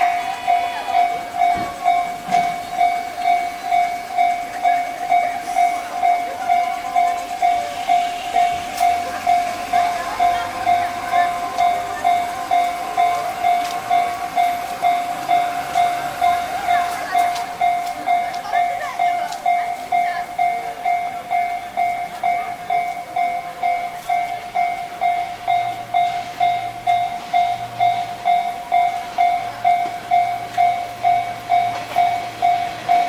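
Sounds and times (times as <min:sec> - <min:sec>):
level-crossing electronic bell ringing: 0:00.0 - 0:33.0.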